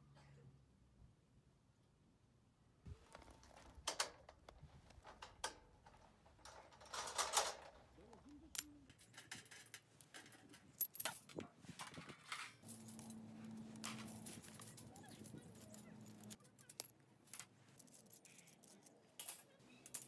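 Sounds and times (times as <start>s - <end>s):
metal parts clinking and tapping: 3.1s - 7.9s, 8.5s - 20.0s.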